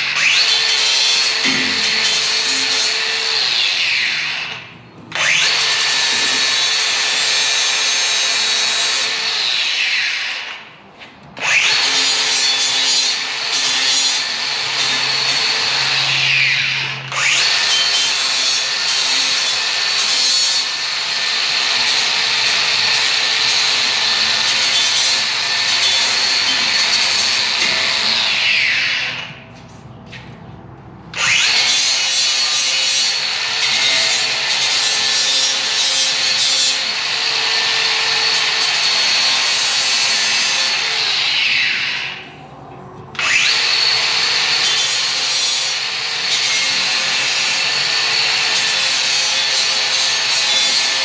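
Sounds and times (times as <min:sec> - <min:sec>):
cordless drill boring into steel: 0:00.1 - 0:10.6, 0:11.4 - 0:29.2, 0:31.2 - 0:42.2, 0:43.2 - 0:51.0.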